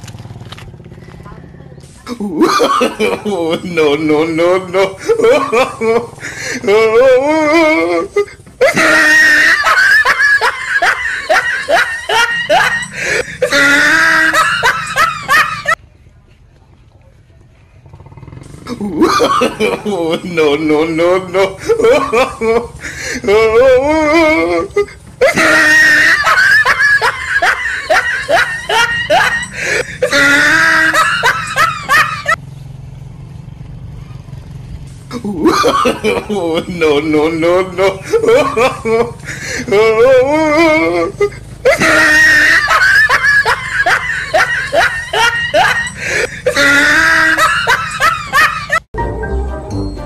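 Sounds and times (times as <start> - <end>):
shrill human laughter: 2.1 - 15.8, 18.6 - 32.4, 35.1 - 48.9.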